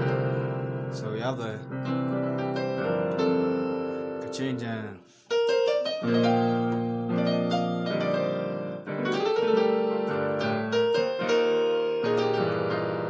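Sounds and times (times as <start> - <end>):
keyboard playing gospel chords: 0.0 - 13.0.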